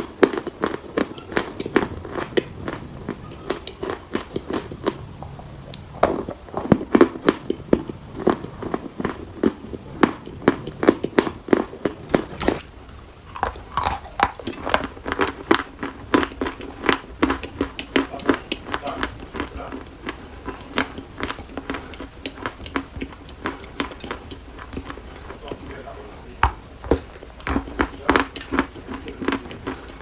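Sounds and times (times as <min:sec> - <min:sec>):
chalk crunching when chewed: 0:00.0 - 0:30.0.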